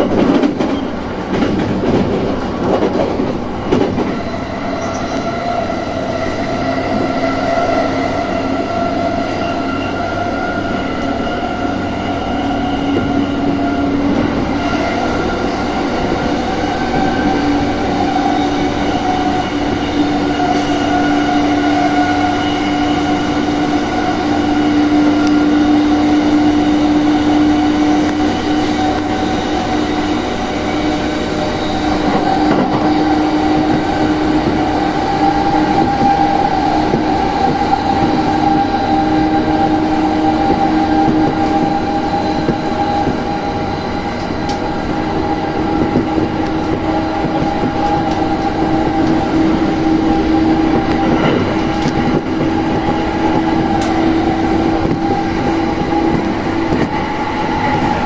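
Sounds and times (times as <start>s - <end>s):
train motor hum: 0.0s - 58.0s
wheels rumbling on rail: 0.0s - 58.0s.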